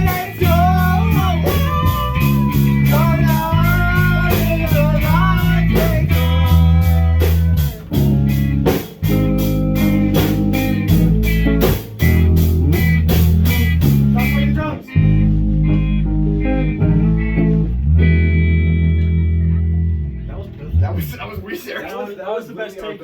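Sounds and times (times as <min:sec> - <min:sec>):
electric guitar with bent notes: 0:00.0 - 0:21.5
rock band playing: 0:00.0 - 0:21.5.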